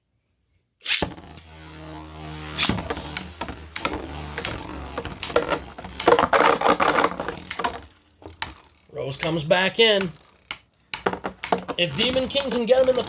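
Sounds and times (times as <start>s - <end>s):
spinning tops launched: 0.8s - 13.0s
spinning tops humming: 0.9s - 13.0s
tops clacking together: 2.4s - 13.0s.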